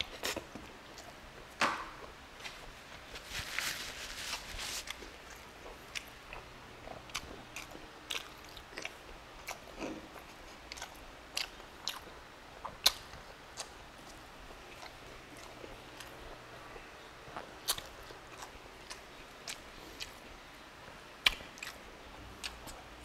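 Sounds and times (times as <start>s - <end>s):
man chewing food: 0.0s - 3.2s, 4.3s - 23.0s.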